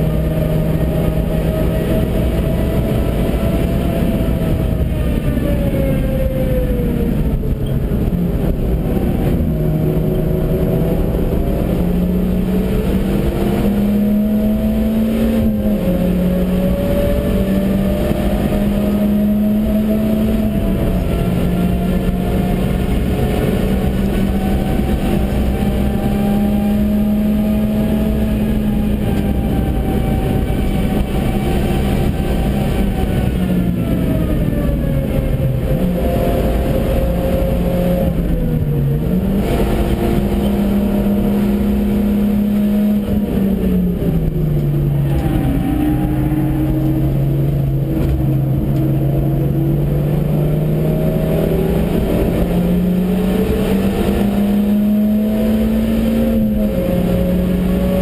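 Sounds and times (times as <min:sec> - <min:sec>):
car engine revving: 0:00.0 - 0:58.0
tyre and wind roar: 0:00.0 - 0:58.0.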